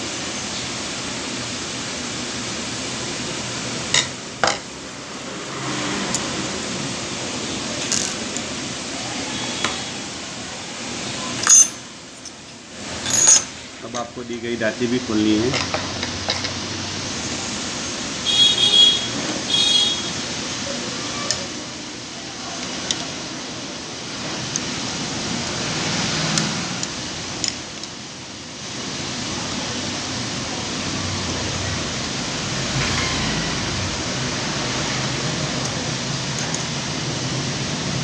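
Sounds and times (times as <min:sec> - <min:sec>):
steady fan-like hiss: 0:00.0 - 0:38.0.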